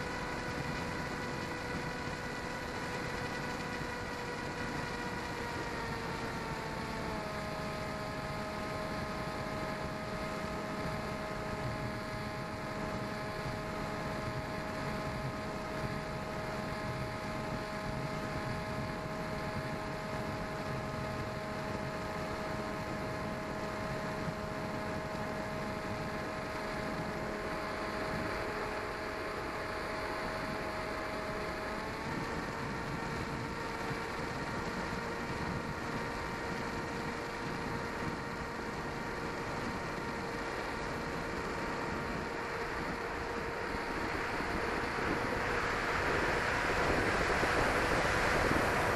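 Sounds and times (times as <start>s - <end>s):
electric motor and propeller whining: 0.0s - 48.9s.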